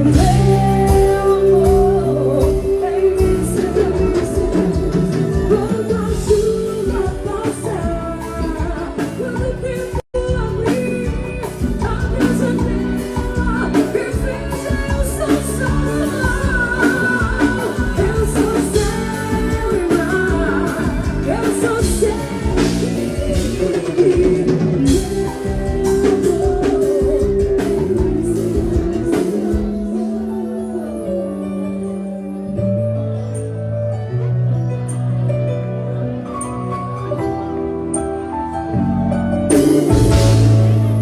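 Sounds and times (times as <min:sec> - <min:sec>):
woman singing pop ballad: 0:00.0 - 0:33.0
band with guitar and drums: 0:00.0 - 0:41.0.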